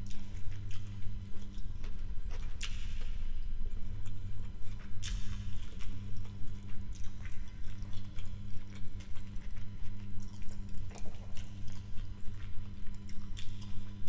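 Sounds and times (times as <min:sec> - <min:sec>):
chewing and wet mouth clicks: 0:00.0 - 0:14.0
steady low hum: 0:00.0 - 0:14.0.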